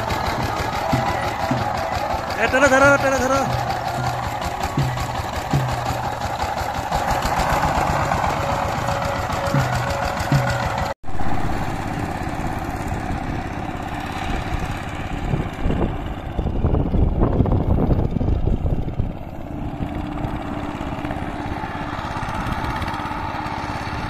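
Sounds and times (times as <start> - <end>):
power tiller diesel engine running: 0.0 - 24.0.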